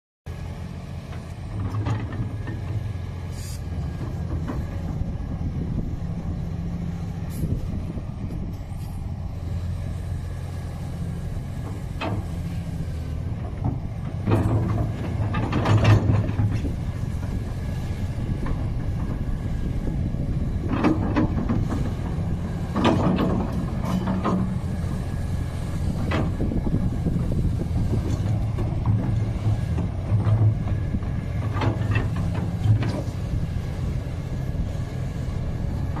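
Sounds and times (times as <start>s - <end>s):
excavator diesel engine: 0.3s - 36.0s.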